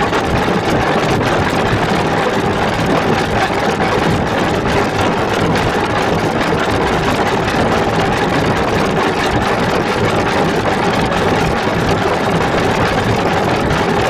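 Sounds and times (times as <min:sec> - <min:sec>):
harsh distorted drone: 0:00.0 - 0:14.0.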